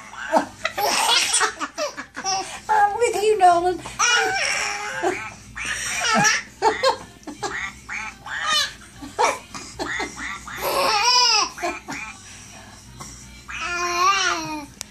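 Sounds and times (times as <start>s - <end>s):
baby laughing: 0.0s - 2.6s, 4.0s - 12.2s, 13.5s - 14.7s.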